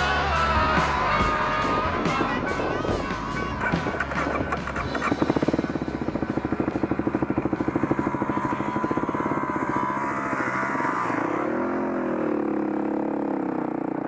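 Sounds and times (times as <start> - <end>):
dirt bike engine chugging: 0.0 - 14.0.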